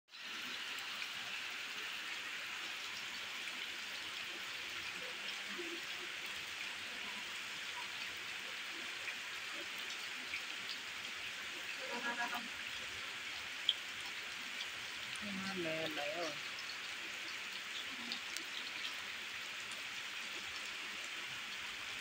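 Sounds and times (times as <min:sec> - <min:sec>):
rain falling on water: 0:00.1 - 0:22.0.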